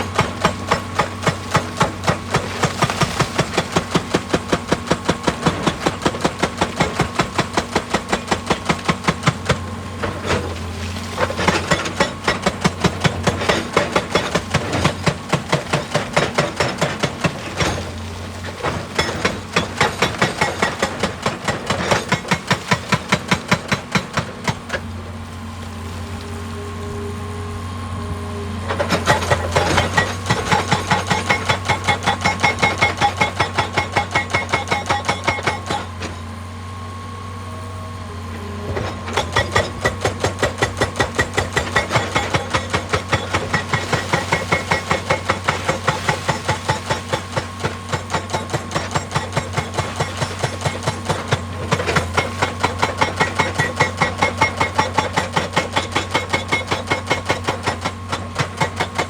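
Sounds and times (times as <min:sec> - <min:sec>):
hydraulic rock breaker hammering: 0:00.0 - 0:25.0, 0:28.6 - 0:36.4, 0:38.2 - 0:59.0
excavator engine running: 0:00.0 - 0:59.0.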